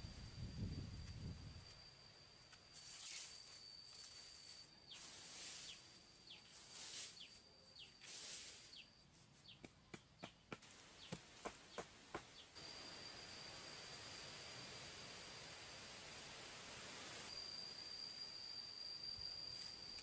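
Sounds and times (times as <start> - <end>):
steady high whine: 0.0 - 9.2, 12.3 - 20.0.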